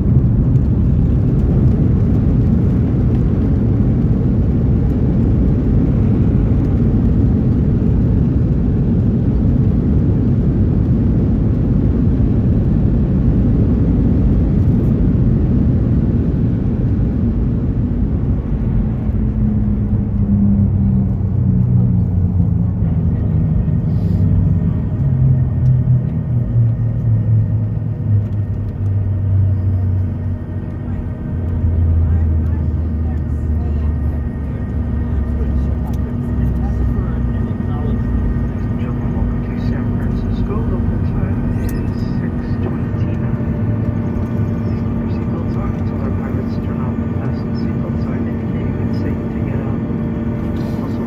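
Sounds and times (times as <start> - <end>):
airplane cabin rumble: 0.0 - 51.0
low engine hum: 0.0 - 51.0.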